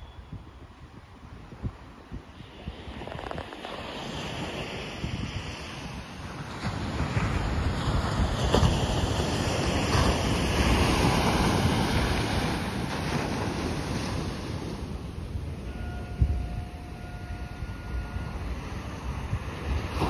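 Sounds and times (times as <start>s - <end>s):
wind buffeting microphone: 0.0s - 20.0s
surf washing onto beach: 2.4s - 16.6s, 17.7s - 20.0s.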